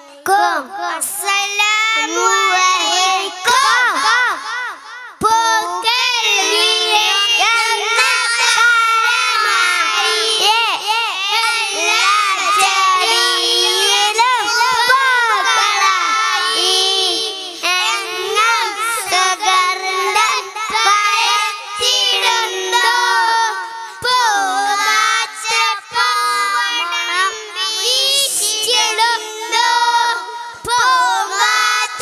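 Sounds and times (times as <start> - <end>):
boys singing into microphones: 0.0 - 32.0.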